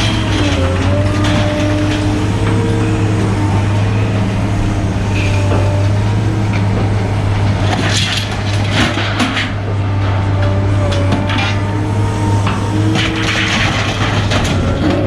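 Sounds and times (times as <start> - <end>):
heavy machinery engine drone: 0.0 - 15.0
scrap metal clanking: 0.0 - 15.0.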